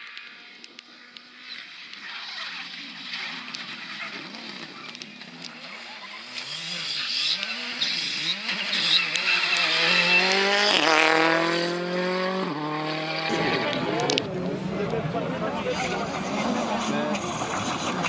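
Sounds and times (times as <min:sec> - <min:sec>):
car engine revving: 0:01.9 - 0:18.0.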